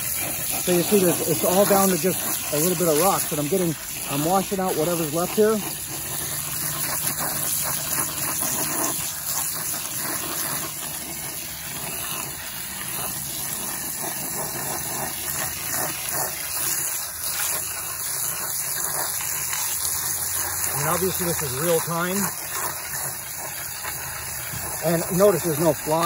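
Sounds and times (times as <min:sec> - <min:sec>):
water jet splashing into bucket: 0:00.0 - 0:26.0.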